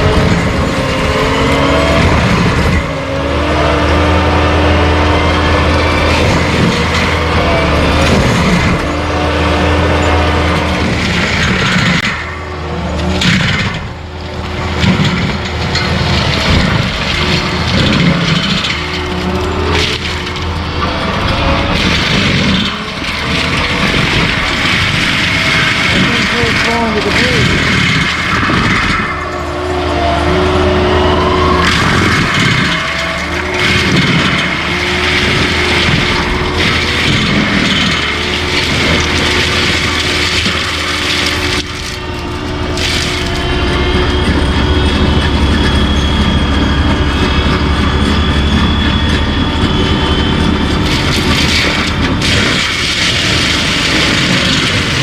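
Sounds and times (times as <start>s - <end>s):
engine humming under load: 0.0s - 55.0s
mulcher grinding wood: 0.0s - 55.0s.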